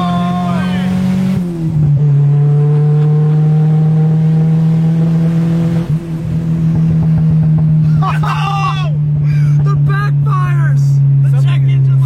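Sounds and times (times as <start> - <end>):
four-cylinder engine droning: 0.0 - 12.0.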